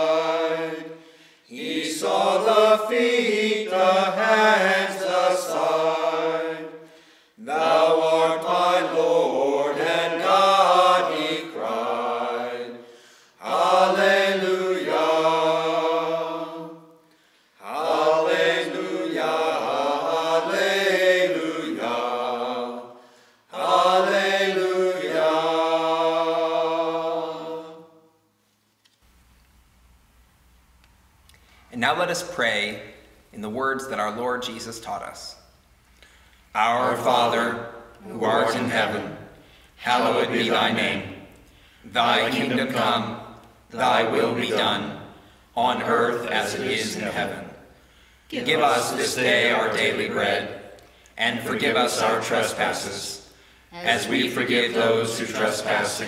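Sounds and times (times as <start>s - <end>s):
voices singing a hymn: 0.0s - 28.2s, 36.5s - 56.0s.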